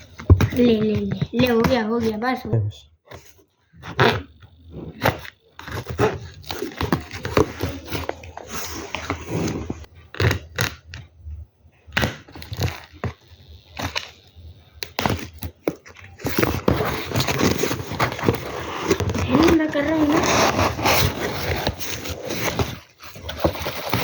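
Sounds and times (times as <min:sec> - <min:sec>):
packaging scraping and rustling: 0:03.1 - 0:11.0, 0:12.0 - 0:24.0.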